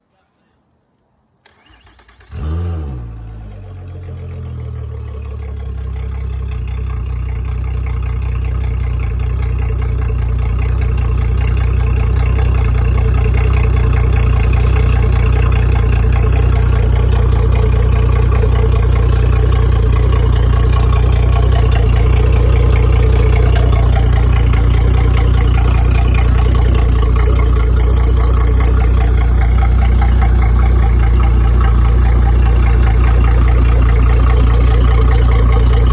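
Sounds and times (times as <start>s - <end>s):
outboard boat engine: 3.0s - 35.9s.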